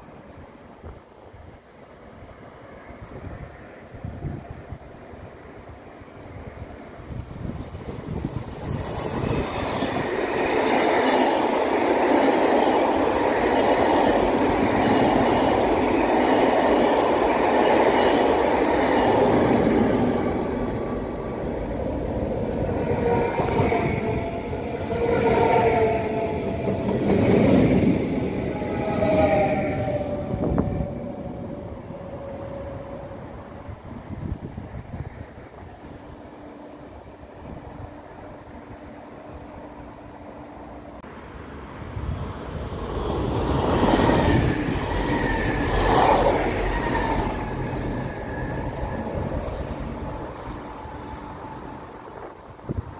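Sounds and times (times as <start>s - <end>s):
train wheels rumbling on track: 5.6s - 38.4s, 40.9s - 52.9s.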